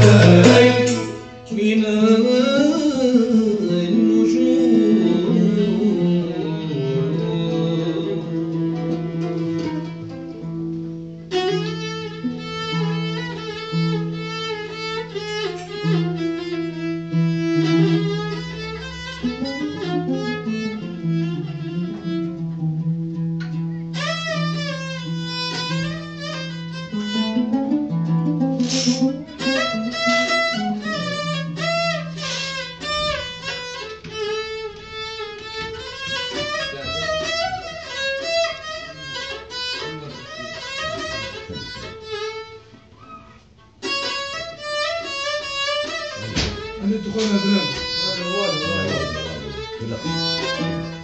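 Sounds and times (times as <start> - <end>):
oud plucking: 0.0 - 51.0
violin melody with sliding notes: 0.0 - 51.0.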